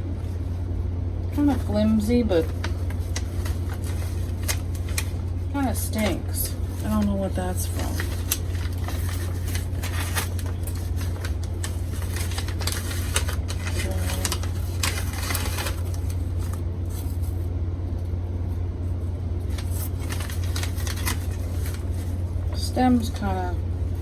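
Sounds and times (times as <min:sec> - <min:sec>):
steady low hum: 0:00.0 - 0:24.0
plant wrapping rustling and crinkling: 0:01.4 - 0:17.5, 0:19.5 - 0:22.6.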